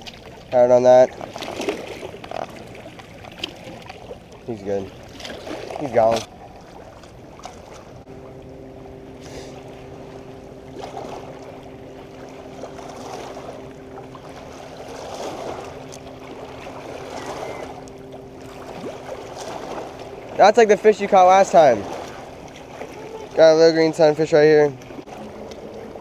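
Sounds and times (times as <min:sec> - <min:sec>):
steady motor hum: 0:00.0 - 0:26.0
water lapping at a dock: 0:00.0 - 0:26.0.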